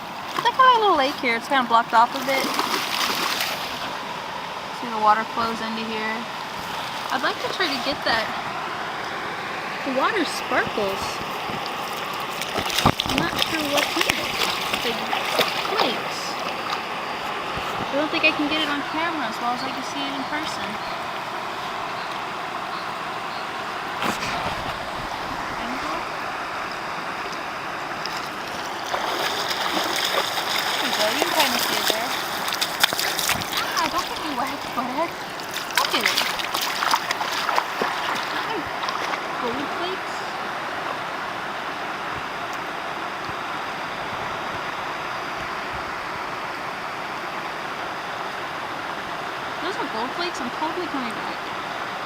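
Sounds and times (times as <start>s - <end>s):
flowing river water: 0.0s - 52.0s.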